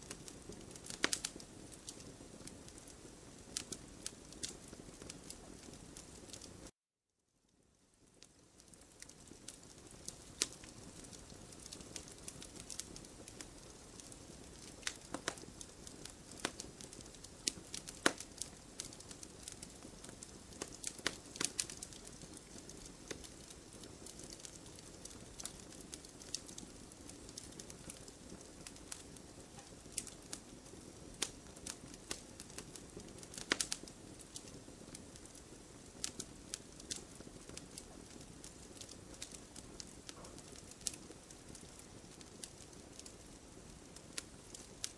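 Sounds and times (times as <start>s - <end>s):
wood fire crackling: 0.0s - 6.7s, 7.5s - 44.9s.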